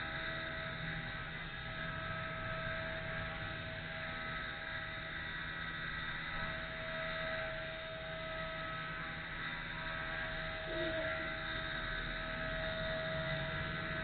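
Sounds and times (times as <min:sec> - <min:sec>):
toy helicopter motor whine: 0:00.0 - 0:14.0.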